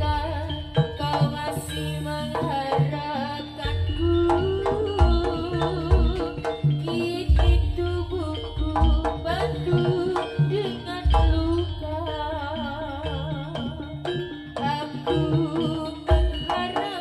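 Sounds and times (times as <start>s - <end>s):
gamelan-style ensemble music: 0.0s - 17.0s
hand-drum strokes: 0.0s - 17.0s.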